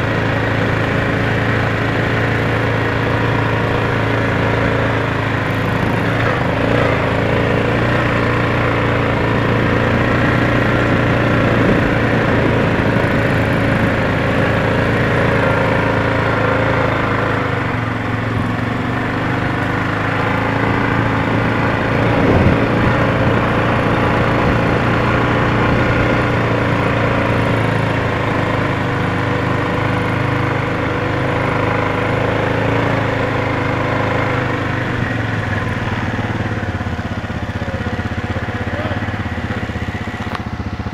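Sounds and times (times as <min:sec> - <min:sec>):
small off-road engines running: 0:00.0 - 0:40.9.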